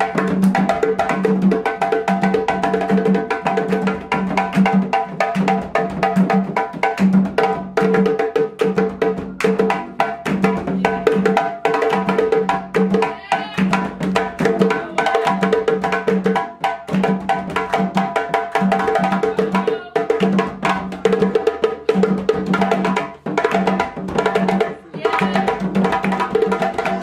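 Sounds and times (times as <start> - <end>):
hand drums playing fast rhythm: 0.0 - 27.0.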